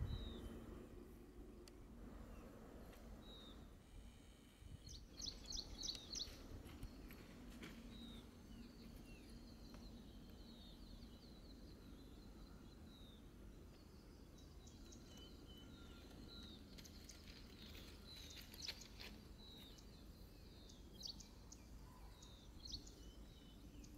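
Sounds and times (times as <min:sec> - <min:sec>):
faint birds chirping: 0:00.0 - 0:23.9.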